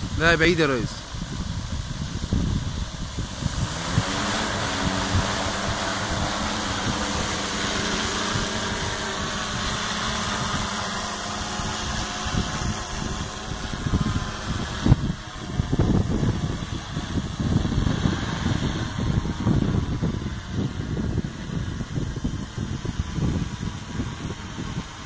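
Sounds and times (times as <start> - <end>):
drone rotors whirring: 0.0 - 25.0.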